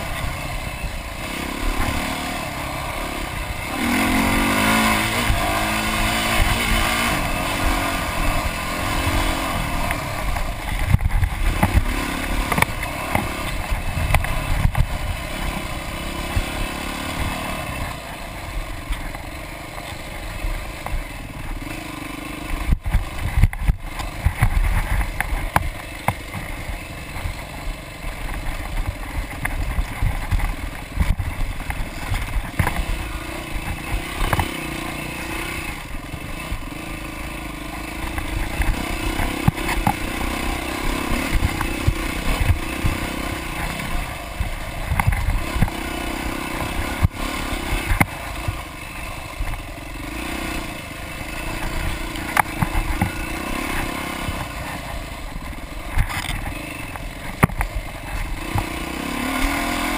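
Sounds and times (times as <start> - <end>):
bike knocking and rattling: 0.0 - 59.9
dirt bike engine revving: 0.0 - 59.9.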